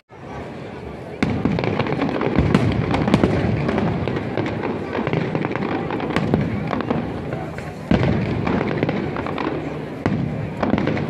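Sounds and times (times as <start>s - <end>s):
firework shell bursts and crackling: 1.2s - 11.0s
sharp firework bangs: 1.2s - 11.0s.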